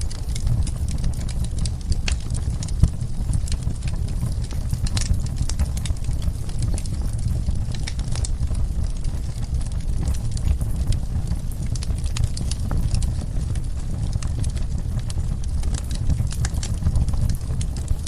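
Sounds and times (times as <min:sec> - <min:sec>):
fire flames rumbling: 0:00.0 - 0:18.0
wood fire crackling and popping: 0:00.0 - 0:18.0.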